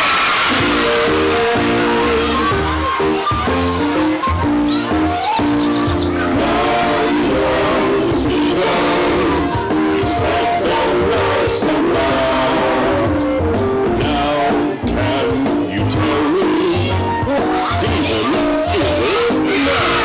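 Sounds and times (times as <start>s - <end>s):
voices singing along: 0.0s - 20.0s
upbeat backing-track music: 0.4s - 20.0s.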